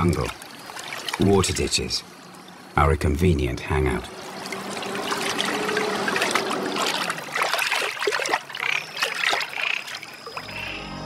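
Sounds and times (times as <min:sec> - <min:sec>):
water trickling in a ditch: 0:00.0 - 0:11.0.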